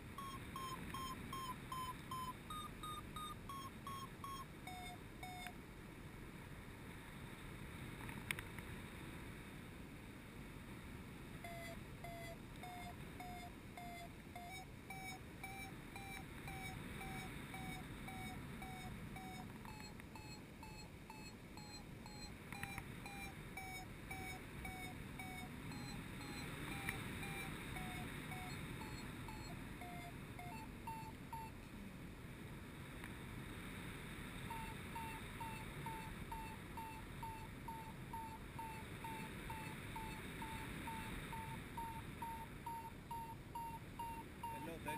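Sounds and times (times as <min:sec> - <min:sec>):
variometer short beeps: 0:00.0 - 0:05.6, 0:11.4 - 0:31.6, 0:34.4 - 0:44.9
low rush of wind: 0:00.0 - 0:44.9.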